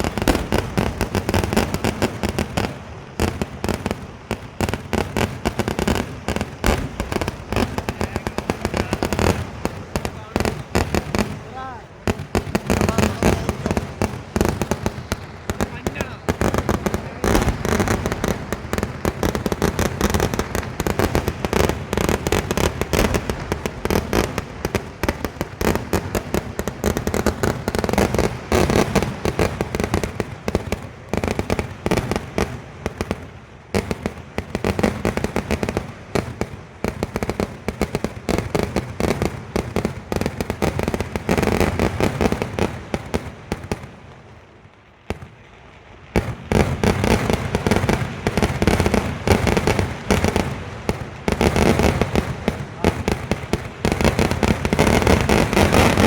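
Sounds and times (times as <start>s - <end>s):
firecracker bangs: 0.0s - 43.9s, 46.0s - 56.0s.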